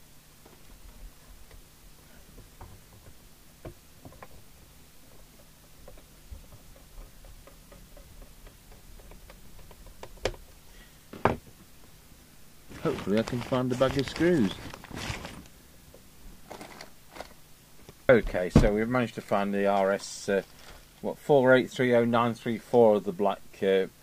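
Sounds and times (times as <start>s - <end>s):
faint low mains hum: 0.0s - 24.0s.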